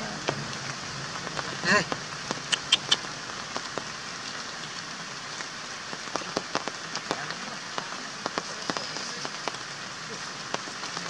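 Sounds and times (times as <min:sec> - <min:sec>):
raindrops tapping close by: 0:00.0 - 0:11.0
steady rain falling: 0:00.0 - 0:11.0.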